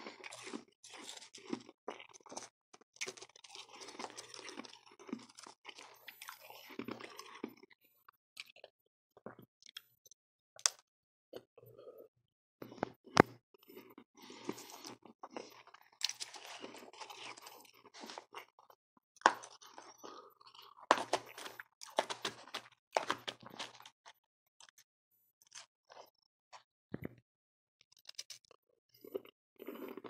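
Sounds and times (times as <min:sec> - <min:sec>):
chewing and crunching ice: 0:00.0 - 0:09.8, 0:10.6 - 0:27.2, 0:27.9 - 0:30.0.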